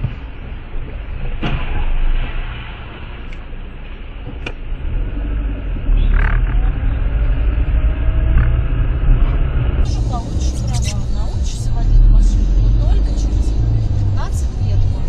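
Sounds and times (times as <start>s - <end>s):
car engine rumble: 0.0s - 15.0s
road noise in car cabin: 0.0s - 15.0s.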